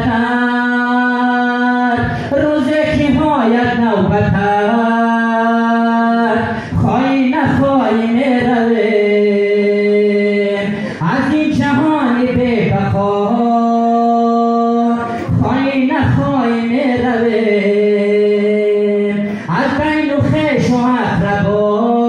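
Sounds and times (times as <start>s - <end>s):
man singing devotional chant: 0.0s - 22.0s.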